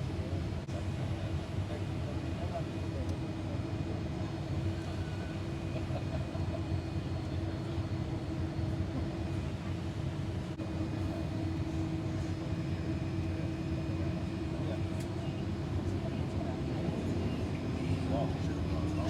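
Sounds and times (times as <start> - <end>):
aircraft cabin engine rumble: 0.0 - 19.0.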